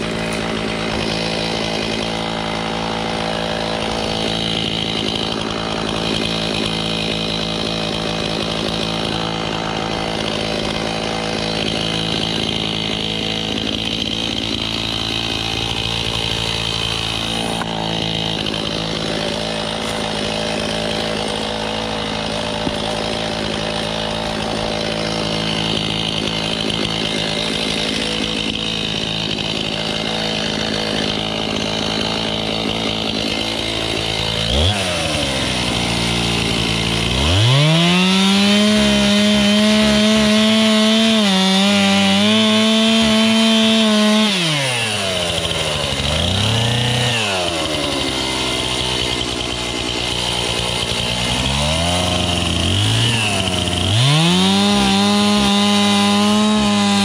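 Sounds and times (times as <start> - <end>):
chainsaw idling: 0.0 - 57.0
chainsaw revving: 0.0 - 57.0.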